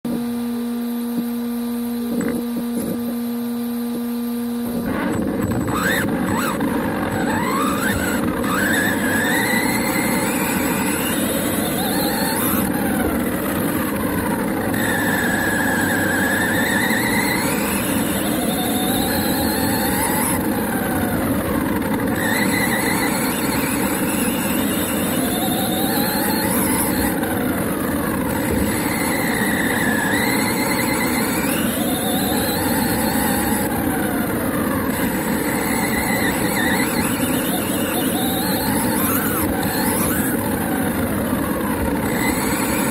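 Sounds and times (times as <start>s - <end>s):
drone of gears and tyres: 0.1s - 42.9s
toy truck motor whine: 0.1s - 42.9s.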